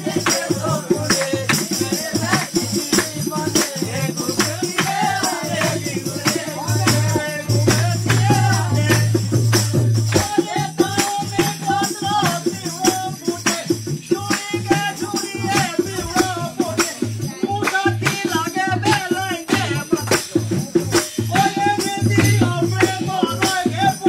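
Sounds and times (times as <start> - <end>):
fast clicking percussion beat: 0.0 - 24.0.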